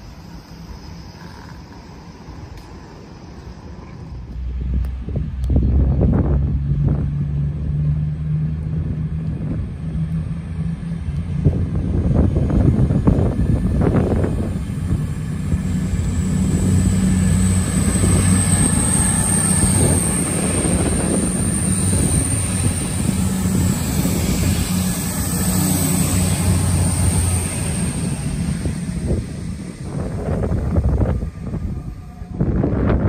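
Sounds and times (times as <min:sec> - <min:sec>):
diesel train engines droning: 0:00.0 - 0:33.0.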